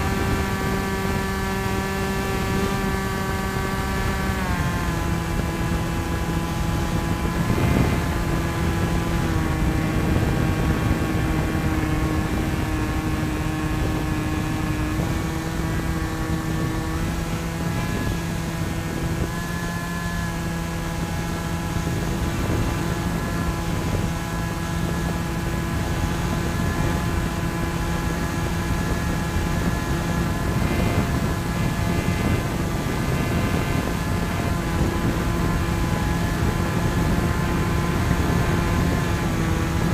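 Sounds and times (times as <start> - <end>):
electric motor and propeller hum: 0.0 - 39.9
wind rushing past microphone: 0.0 - 39.9.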